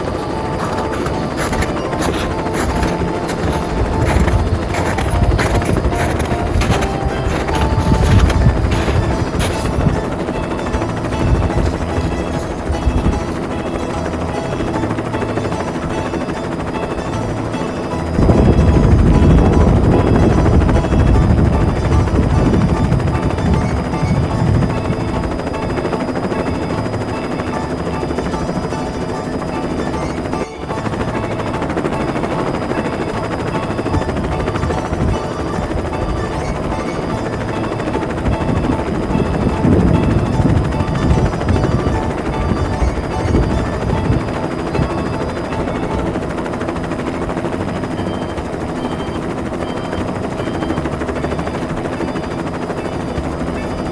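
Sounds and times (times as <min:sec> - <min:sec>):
toy helicopter rotor whir: 0:00.0 - 0:53.9.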